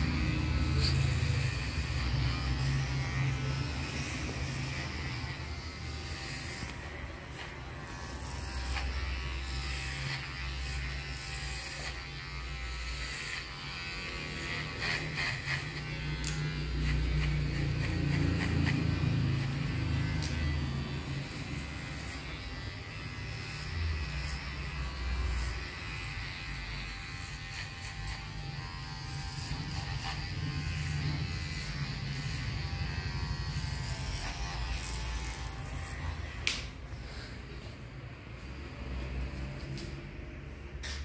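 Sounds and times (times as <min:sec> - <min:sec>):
hair clipper buzzing: 0:00.0 - 0:37.4.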